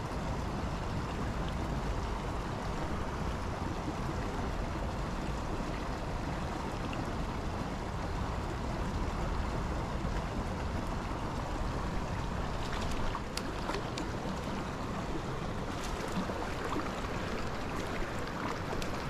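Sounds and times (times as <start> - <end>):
creek water over rocks: 0.0 - 19.0.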